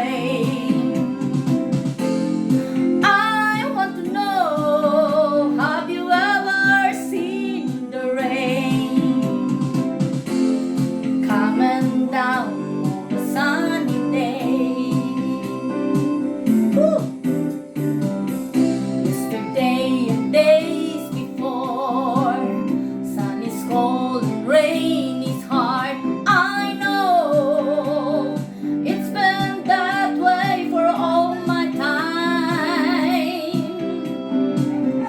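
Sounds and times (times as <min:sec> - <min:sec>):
woman singing with vibrato: 0:00.0 - 0:01.5, 0:03.0 - 0:17.3, 0:19.1 - 0:35.0
instrumental backing: 0:00.0 - 0:35.0.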